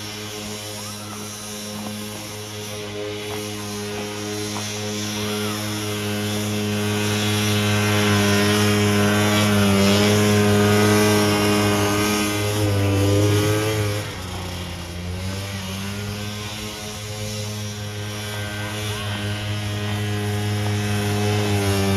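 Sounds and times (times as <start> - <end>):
snow scooter two-stroke engine: 0.0 - 21.9.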